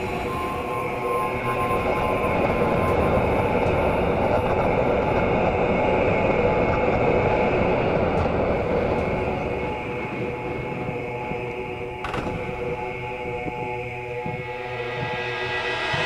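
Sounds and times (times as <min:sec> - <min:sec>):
rushing wind: 0:00.0 - 0:16.0.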